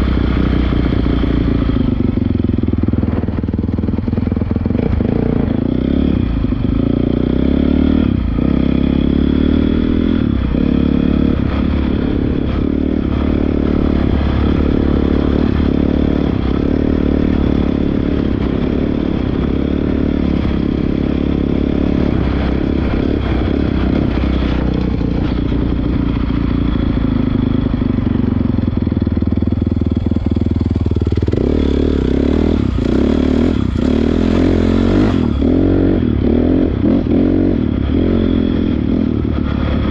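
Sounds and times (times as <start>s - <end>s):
dirt bike engine revving: 4.6s - 27.6s, 29.8s - 39.9s.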